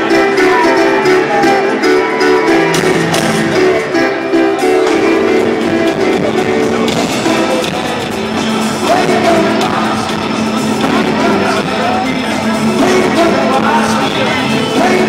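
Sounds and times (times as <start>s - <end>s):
guitar: 0.0s - 15.0s
live rock band playing: 0.0s - 15.0s
person singing: 0.0s - 15.0s.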